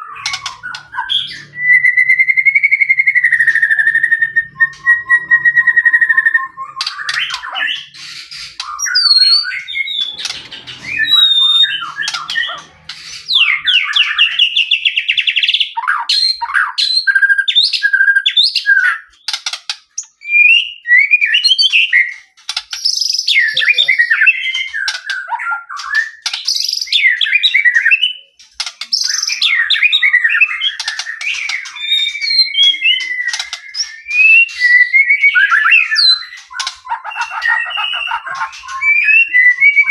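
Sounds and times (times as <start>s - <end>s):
bird singing whistles and trills: 0.0s - 19.4s, 20.0s - 39.9s.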